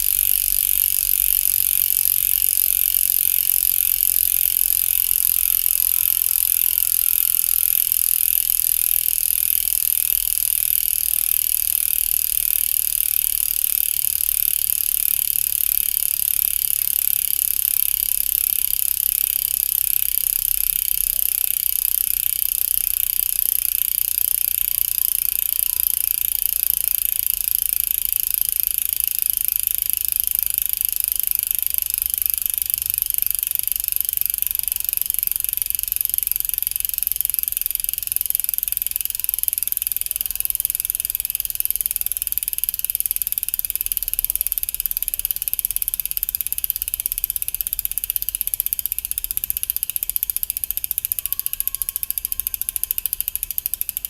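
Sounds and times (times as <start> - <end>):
bicycle freewheel clicking: 0.0 - 54.0.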